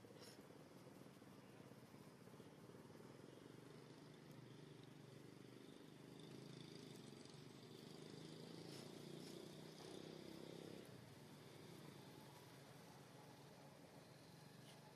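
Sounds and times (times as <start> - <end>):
faint low hum with flutter: 0.0 - 14.9.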